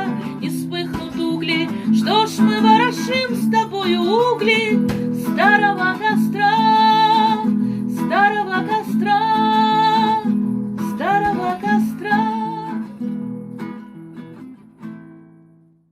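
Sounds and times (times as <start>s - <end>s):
strummed acoustic guitar: 0.0s - 15.9s.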